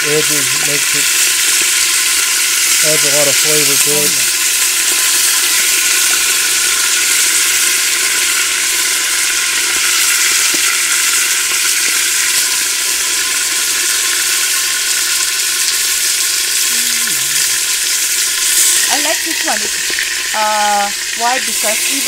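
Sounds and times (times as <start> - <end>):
beef sizzling in hot oil: 0.0 - 22.0.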